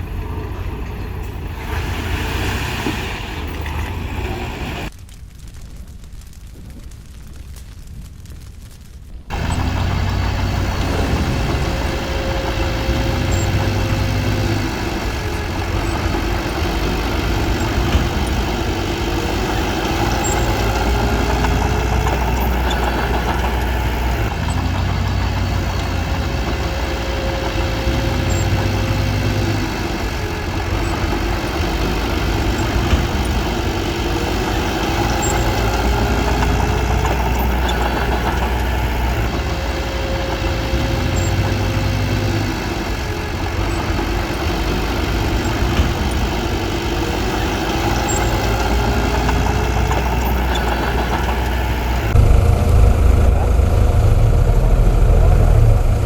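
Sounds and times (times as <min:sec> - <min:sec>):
bulldozer diesel engine running: 0:00.0 - 0:04.9, 0:09.3 - 0:56.0.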